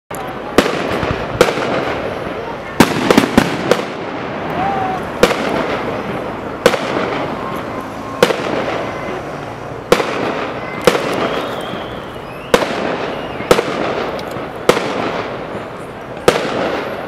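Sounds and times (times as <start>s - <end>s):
firework shells bursting with bangs: 0.1s - 17.0s
steady background noise: 0.1s - 17.0s.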